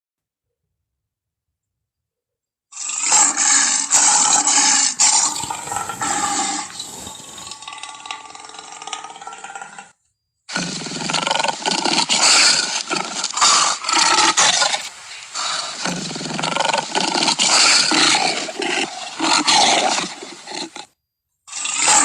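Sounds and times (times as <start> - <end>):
big cat growling: 2.8 - 9.9, 10.5 - 22.0.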